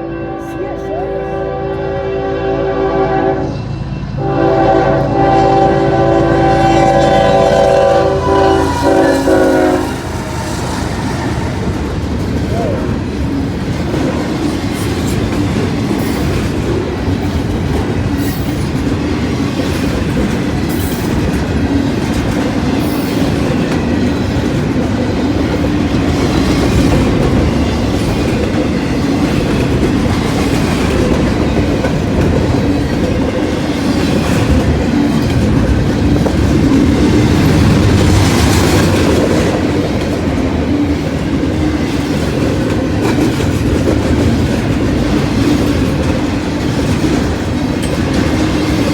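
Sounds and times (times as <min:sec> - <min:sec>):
train wheels rumbling on rails: 0:00.0 - 0:48.9.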